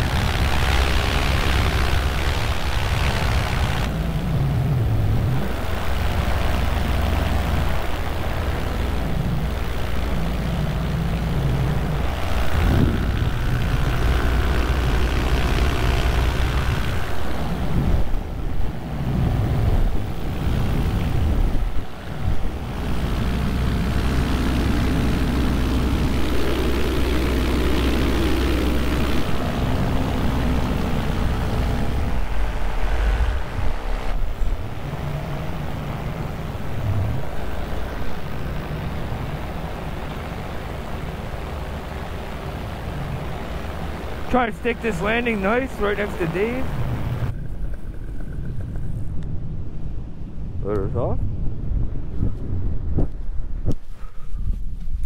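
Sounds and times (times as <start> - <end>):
paramotor engine and propeller: 0.0 - 55.0.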